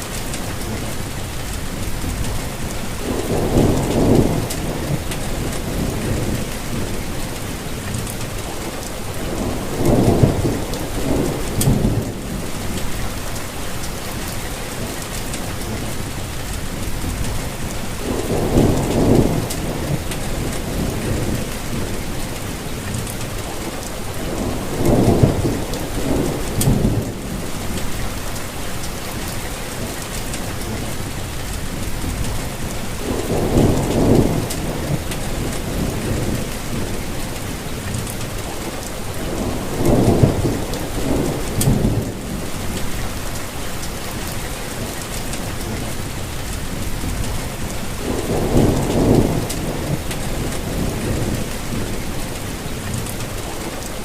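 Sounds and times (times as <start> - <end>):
steady rainfall: 0.0 - 54.0
distant thunder rumbling: 1.8 - 14.8, 16.7 - 29.8, 31.7 - 53.9.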